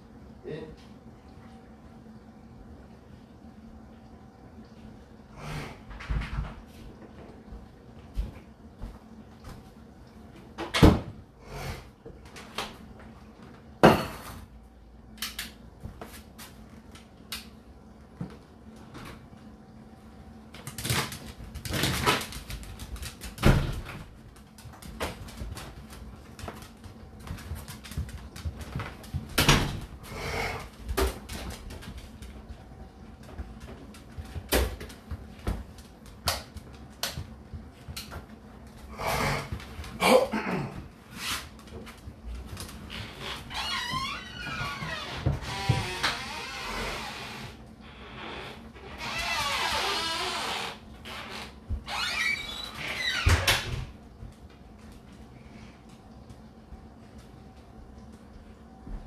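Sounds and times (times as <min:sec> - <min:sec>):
dishwasher humming: 0:00.0 - 0:59.0.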